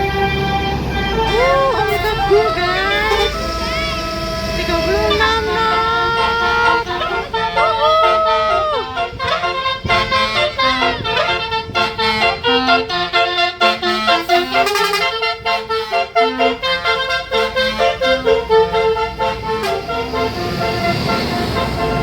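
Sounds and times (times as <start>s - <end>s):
multi-tone air horn melody: 0.0s - 22.0s.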